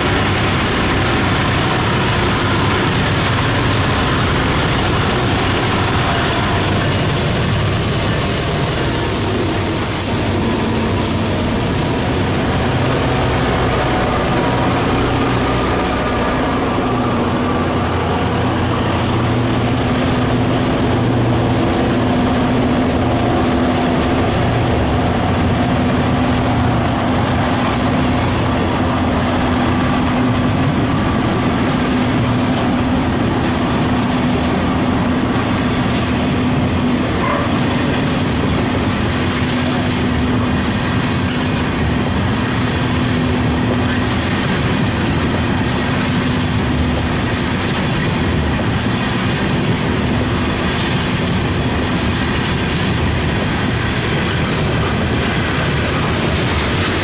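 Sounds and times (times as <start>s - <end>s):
locomotive diesel engine: 0.0s - 57.0s
train wheels rumbling on rails: 0.0s - 57.0s.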